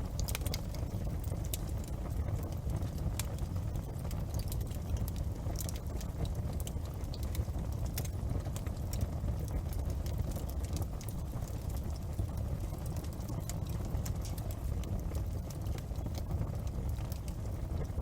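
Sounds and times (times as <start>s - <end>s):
bonfire flames rumbling: 0.0s - 18.0s
fire crackles and pops: 0.0s - 18.0s.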